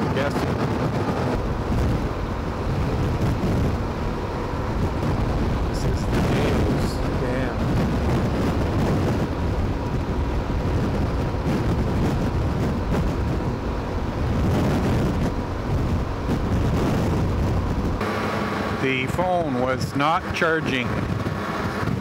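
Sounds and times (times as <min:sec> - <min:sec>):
motorcycle engine cruising: 0:00.0 - 0:22.0
wind buffeting microphone: 0:00.0 - 0:22.0.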